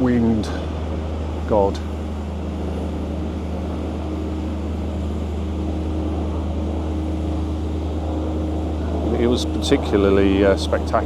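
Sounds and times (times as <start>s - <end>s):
faint droning tone: 0.0s - 11.0s
low rumble of engines: 0.0s - 11.0s.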